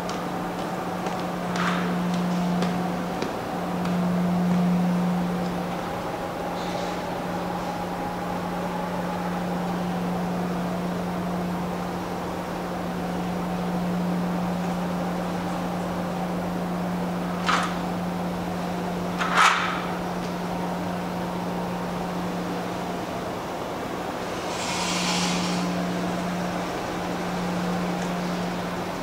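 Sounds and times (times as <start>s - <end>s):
low machinery hum: 0.0s - 29.0s.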